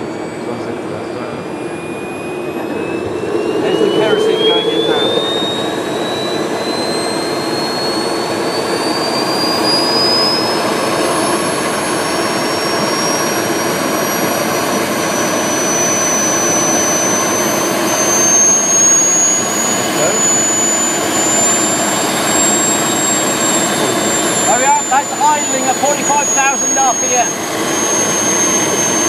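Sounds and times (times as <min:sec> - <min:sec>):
gas turbine spooling up: 0:00.0 - 0:29.0.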